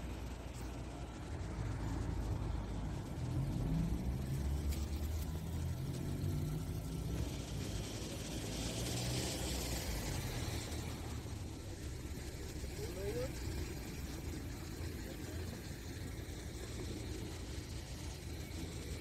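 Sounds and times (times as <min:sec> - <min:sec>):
car engine humming: 0:00.0 - 0:19.0
road noise hiss: 0:00.0 - 0:19.0.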